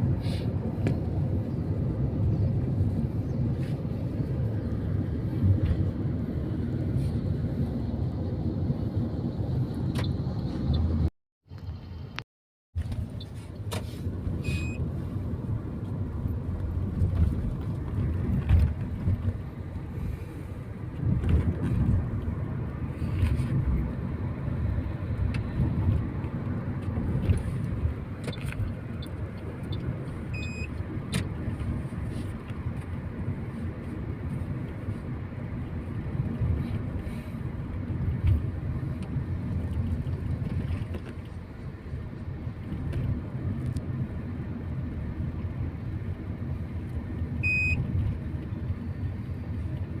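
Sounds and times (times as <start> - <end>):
road and engine rumble: 0.0 - 50.0.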